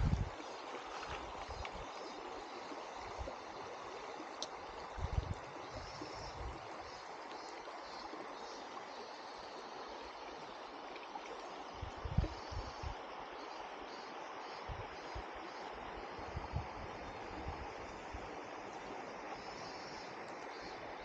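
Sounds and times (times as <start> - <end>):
river water running over riffle: 0.0 - 21.0.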